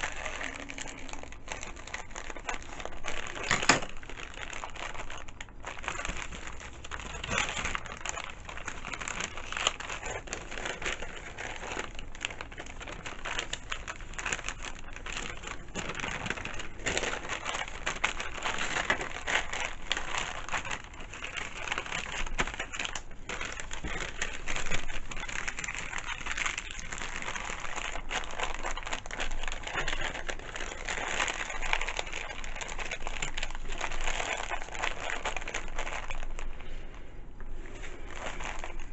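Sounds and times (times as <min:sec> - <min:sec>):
wrapping paper crinkling: 0:00.0 - 0:38.9.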